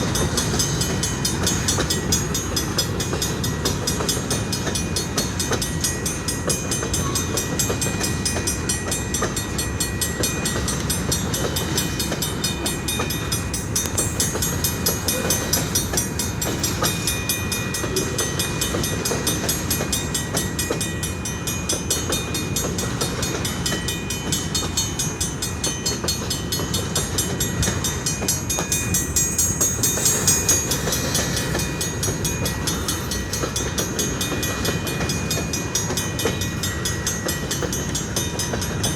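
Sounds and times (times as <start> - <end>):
train cars rumbling on rails: 0.0 - 38.9
high ringing tones: 4.8 - 38.9.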